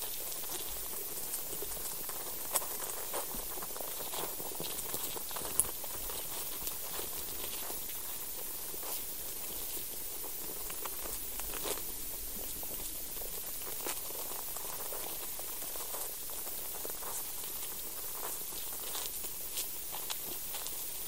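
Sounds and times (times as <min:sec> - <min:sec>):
faint clicks and crackles: 0:00.0 - 0:21.0
steady hiss: 0:00.0 - 0:21.0.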